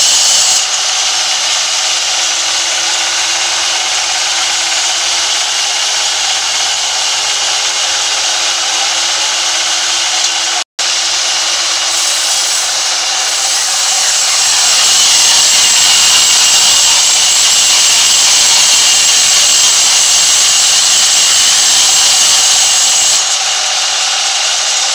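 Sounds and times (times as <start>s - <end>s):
band saw cutting log: 0.0s - 24.9s.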